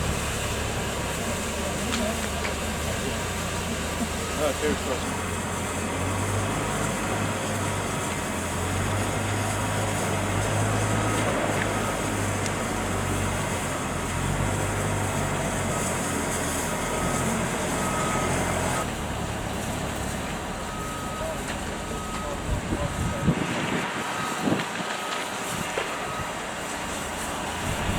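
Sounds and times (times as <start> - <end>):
low engine hum: 0.0 - 27.9.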